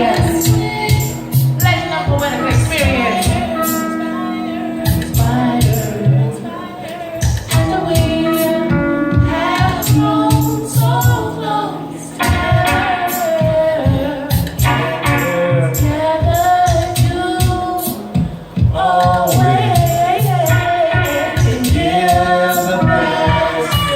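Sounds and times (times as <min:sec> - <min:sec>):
drum and bass beat: 0:00.0 - 0:03.8, 0:04.8 - 0:06.3, 0:07.2 - 0:11.4, 0:12.2 - 0:23.9
person singing: 0:00.0 - 0:23.9.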